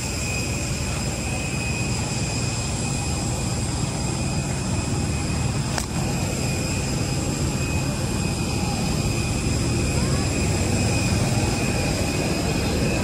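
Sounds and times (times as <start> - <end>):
jet aircraft noise: 0.0 - 13.0.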